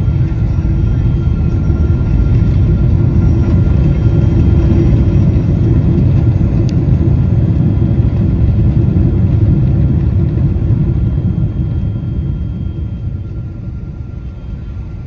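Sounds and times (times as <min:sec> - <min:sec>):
airplane cabin engine rumble: 0:00.0 - 0:15.0
faint steady tones: 0:00.0 - 0:15.0.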